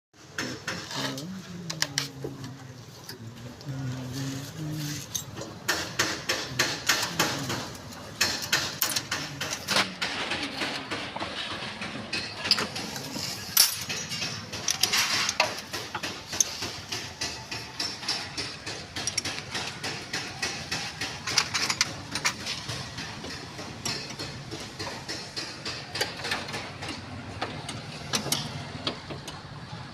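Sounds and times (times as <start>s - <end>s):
metal hand tools clicking and knocking: 5.0s - 29.4s.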